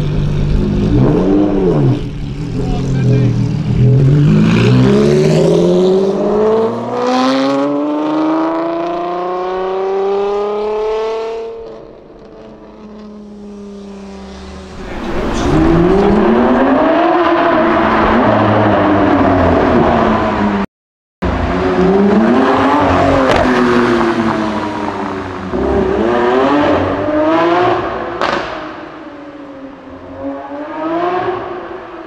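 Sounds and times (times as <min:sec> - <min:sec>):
car engine revving: 0:00.0 - 0:20.6, 0:21.2 - 0:32.0.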